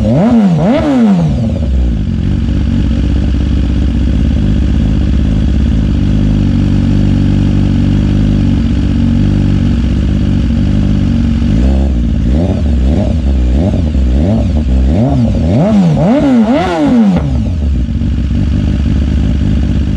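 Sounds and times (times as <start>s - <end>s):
motorcycle engine idling and revving: 0.0s - 19.9s.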